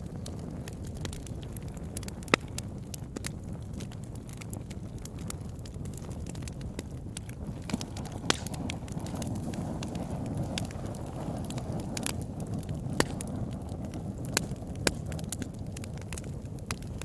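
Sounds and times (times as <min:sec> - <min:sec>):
low rush of flames: 0:00.0 - 0:17.0
wood popping and snapping: 0:00.3 - 0:17.0.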